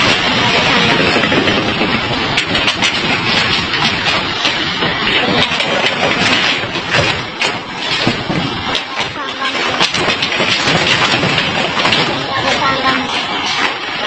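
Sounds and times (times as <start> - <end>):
heavy rain: 0.0 - 14.0
storm wind on microphone: 0.0 - 14.0.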